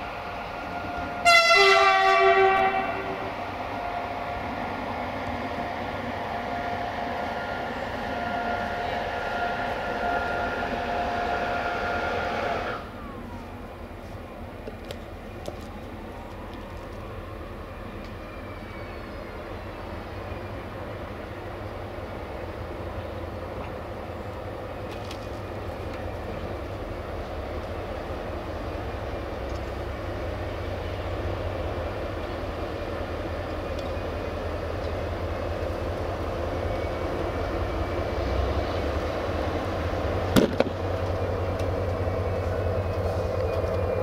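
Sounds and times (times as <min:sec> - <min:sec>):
diesel locomotive engine rumbling: 0:00.0 - 0:44.0.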